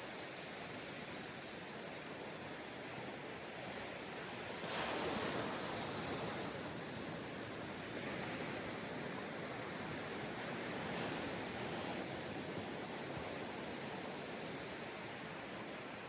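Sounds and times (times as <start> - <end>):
ocean surf on beach: 0.0 - 16.0.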